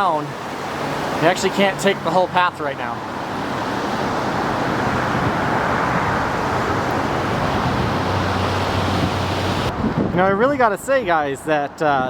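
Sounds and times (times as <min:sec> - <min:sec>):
mountain creek rushing: 0:00.0 - 0:10.0
road traffic: 0:00.0 - 0:12.0.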